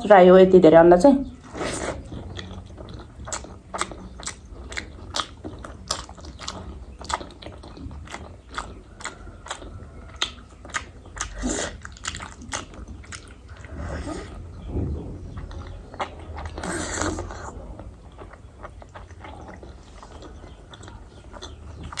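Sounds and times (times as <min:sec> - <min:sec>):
person chewing food: 0:01.4 - 0:22.0
mouth clicks and smacks: 0:01.6 - 0:22.0.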